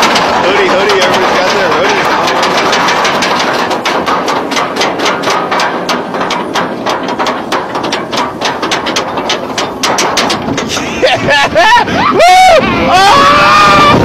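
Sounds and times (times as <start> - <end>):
roller coaster ratchet clacking: 0.0 - 14.0.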